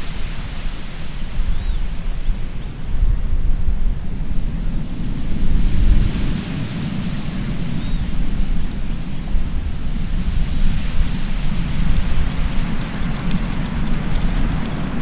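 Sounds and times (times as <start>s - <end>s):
surf hissing on beach: 0.0s - 15.0s
wind buffeting microphone: 0.0s - 15.0s.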